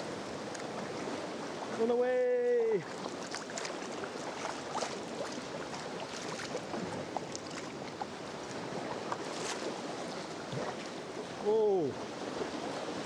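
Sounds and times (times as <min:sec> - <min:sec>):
sea water sloshing around kayak: 0:00.0 - 0:13.0.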